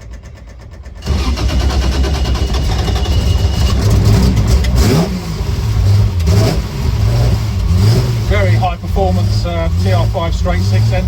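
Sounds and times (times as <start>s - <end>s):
car engine idling unevenly: 0.0s - 11.0s.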